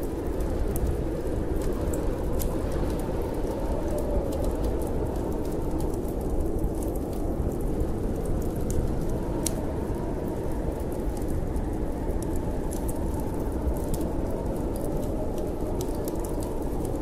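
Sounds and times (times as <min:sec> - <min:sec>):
storm wind rumbling: 0:00.0 - 0:17.0
wood fire crackling: 0:00.0 - 0:17.0.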